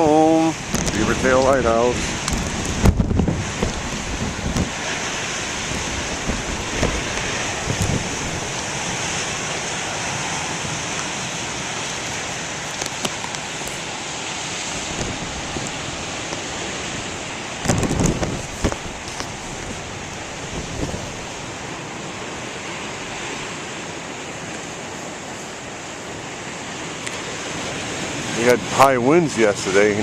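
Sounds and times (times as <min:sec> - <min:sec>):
wind buffeting microphone: 0:00.0 - 0:25.2
surf breaking on rocky shore: 0:00.0 - 0:30.0.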